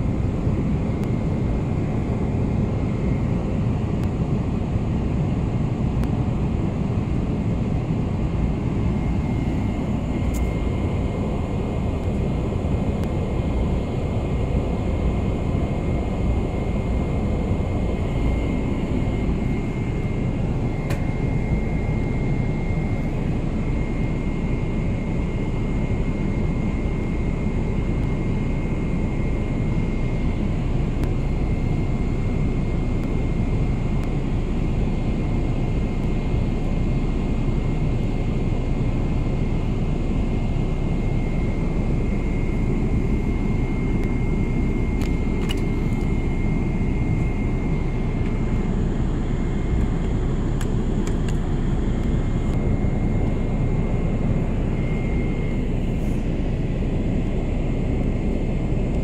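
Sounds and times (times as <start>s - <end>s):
airliner cabin drone: 0.0s - 59.0s
faint high whine: 0.0s - 59.0s.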